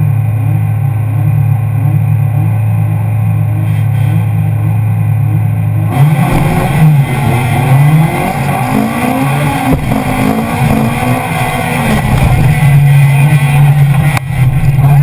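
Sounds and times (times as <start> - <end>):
race car engine revving: 0.7 - 15.0.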